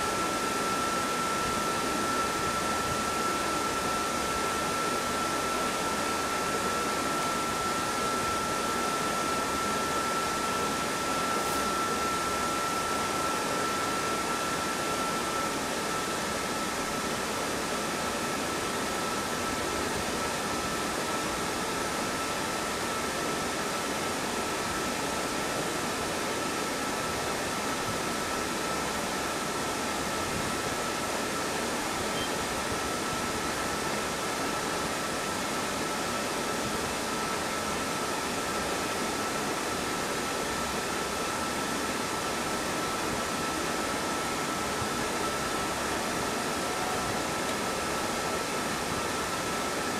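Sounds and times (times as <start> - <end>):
machine fan hiss and whine: 0.0 - 49.9.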